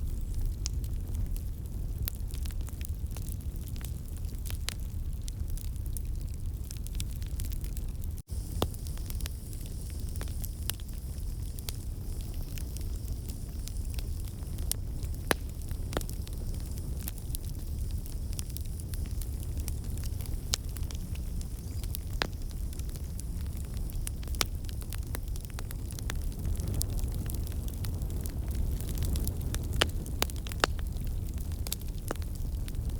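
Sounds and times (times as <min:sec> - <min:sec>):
wood fire crackling: 0:00.0 - 0:32.9
fire pops: 0:00.1 - 0:32.9.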